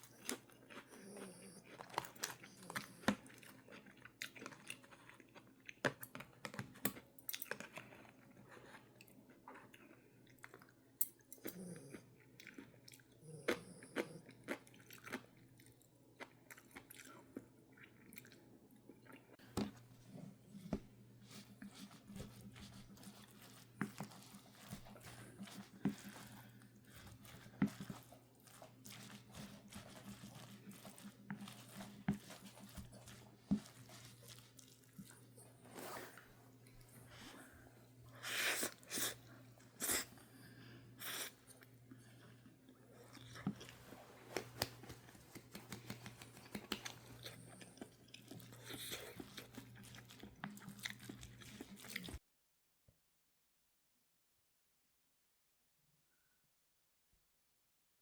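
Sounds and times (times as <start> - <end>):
person chewing crunchy food: 0.0 - 52.2.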